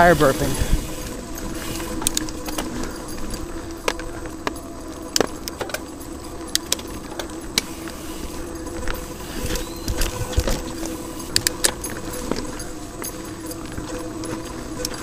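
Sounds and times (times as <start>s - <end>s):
bike metallic clicks and rattles: 0.0s - 15.0s
bike tyres rumbling on dirt: 0.0s - 15.0s
wind: 0.0s - 15.0s.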